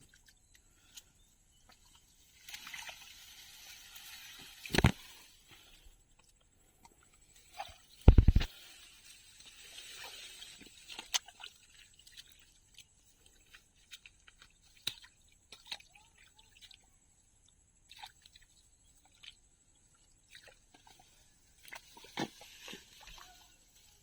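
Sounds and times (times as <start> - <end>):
wet mud squelches and drips: 0.0 - 24.0.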